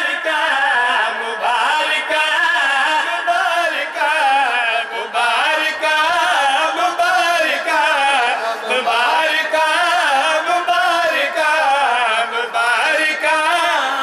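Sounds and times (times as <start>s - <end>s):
man chanting unaccompanied: 0.0s - 14.0s.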